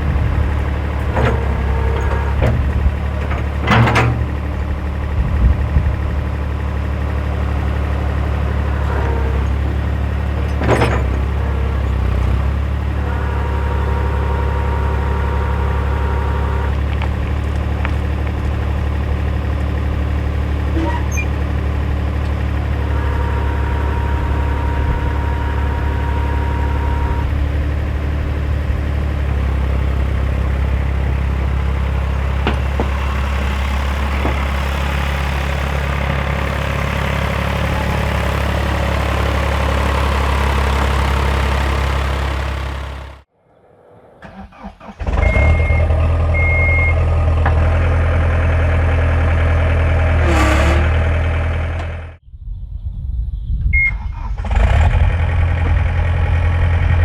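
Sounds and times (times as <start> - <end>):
backhoe engine running: 0.0 - 43.3, 44.2 - 52.2, 53.8 - 57.0.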